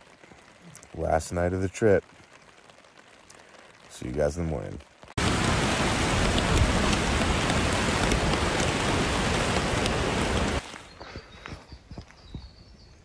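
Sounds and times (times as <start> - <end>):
heavy rain on a tarp: 0.0 - 11.3.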